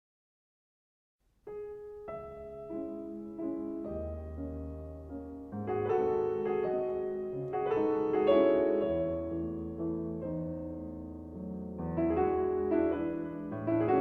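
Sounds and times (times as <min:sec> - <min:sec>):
slow piano piece: 0:01.3 - 0:14.0.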